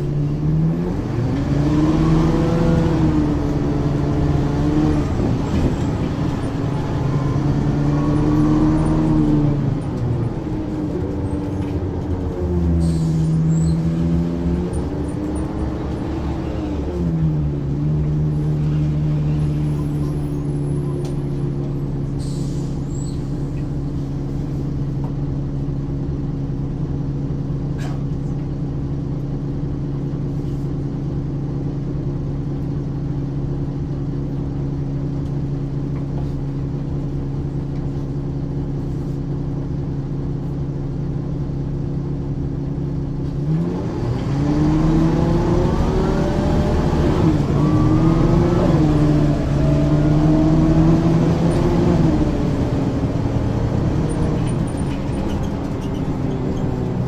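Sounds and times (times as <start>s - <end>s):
diesel bus engine idling and revving: 0.0s - 57.0s.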